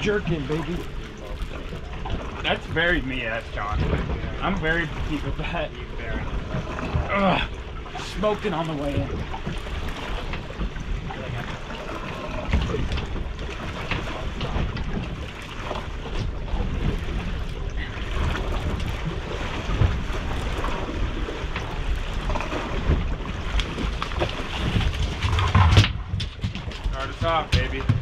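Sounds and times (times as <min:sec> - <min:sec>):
water sloshing against a hull: 0:00.0 - 0:28.0
wind buffeting the microphone: 0:00.0 - 0:28.0.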